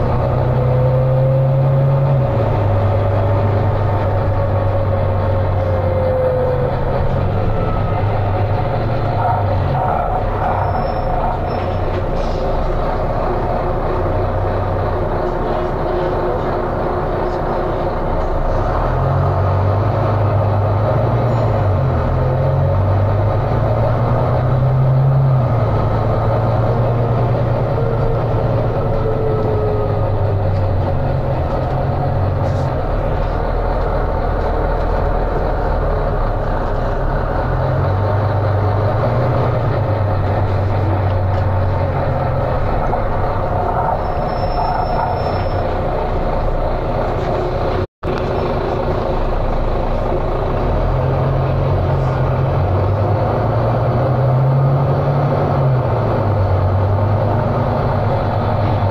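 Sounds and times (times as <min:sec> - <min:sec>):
bus diesel engine revving: 0:00.0 - 0:58.9.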